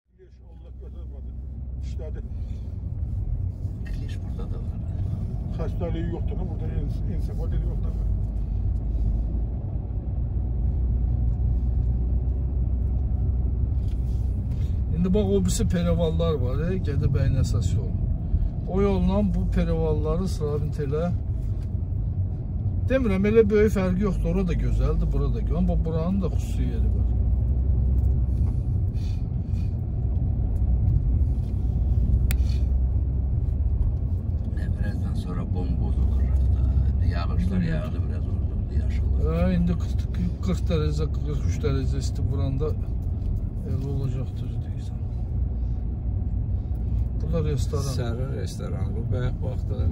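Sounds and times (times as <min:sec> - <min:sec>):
car engine and road noise: 0:00.1 - 0:49.9.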